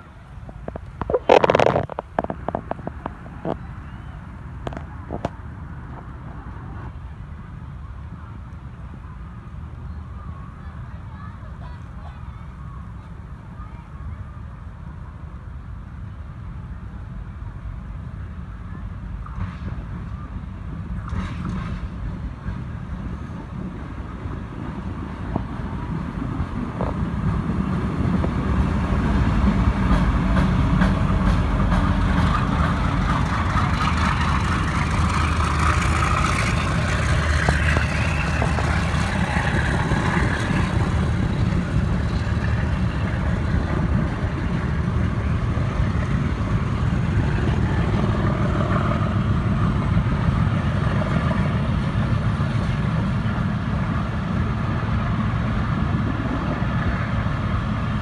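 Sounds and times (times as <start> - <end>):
locomotive engine humming: 0.0 - 58.0.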